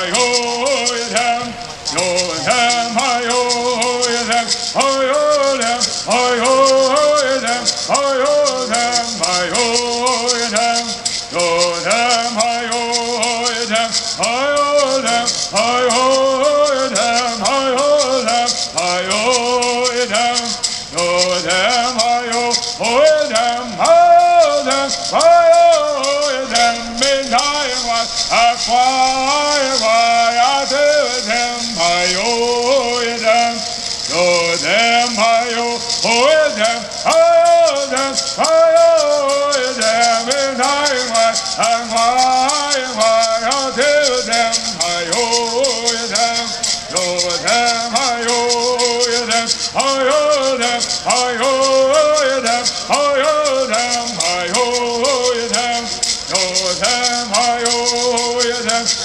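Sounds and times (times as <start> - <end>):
gourd rattles shaking: 0.0 - 59.0
men singing together: 0.0 - 59.0.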